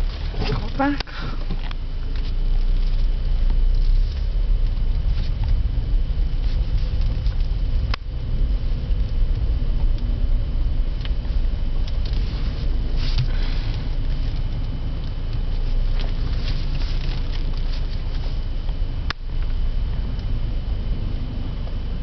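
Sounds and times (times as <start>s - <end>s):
engine and road noise rumble: 0.0s - 22.0s.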